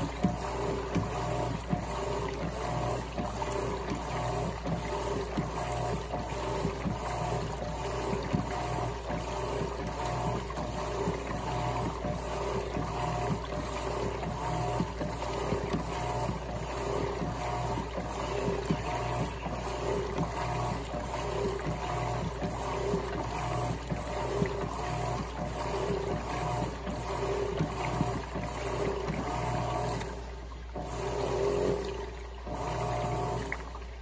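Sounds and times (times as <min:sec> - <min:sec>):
small splashes and knocks: 0:00.0 - 0:34.0
washing machine motor hum: 0:00.0 - 0:34.0
water churning and sloshing: 0:00.0 - 0:34.0.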